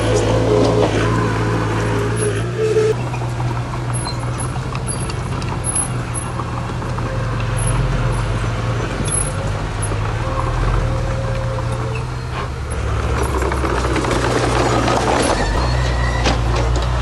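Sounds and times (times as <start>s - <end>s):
heavy diesel engine humming: 0.0s - 17.0s.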